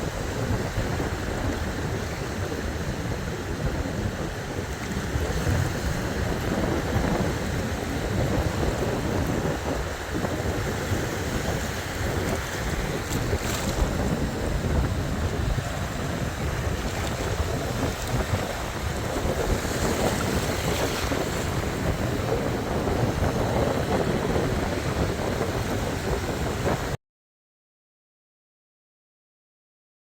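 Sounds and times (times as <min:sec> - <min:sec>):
sea waves washing: 0:00.0 - 0:27.0
wind buffeting microphone: 0:00.0 - 0:27.0.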